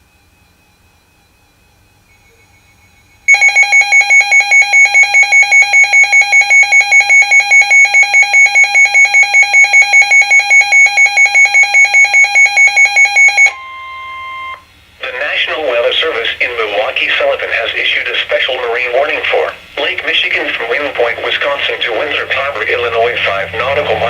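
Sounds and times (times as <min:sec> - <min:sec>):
weather radio alarm beeping rapidly: 0:03.3 - 0:24.0.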